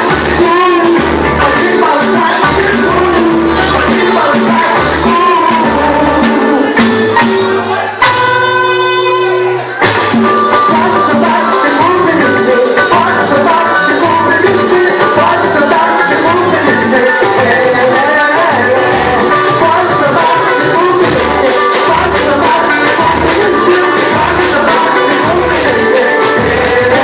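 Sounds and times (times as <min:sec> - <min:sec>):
person singing: 0:00.0 - 0:08.3, 0:09.1 - 0:27.0
percussion: 0:00.0 - 0:27.0
samba band playing: 0:00.0 - 0:27.0.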